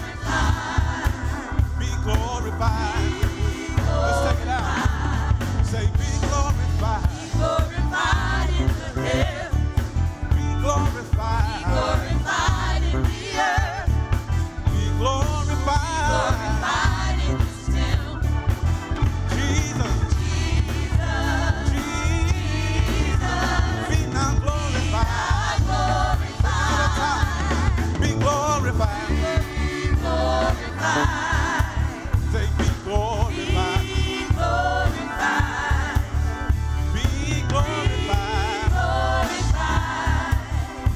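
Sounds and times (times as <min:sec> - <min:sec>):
band playing with bass line: 0:00.0 - 0:40.9
gospel choir singing: 0:00.0 - 0:40.9.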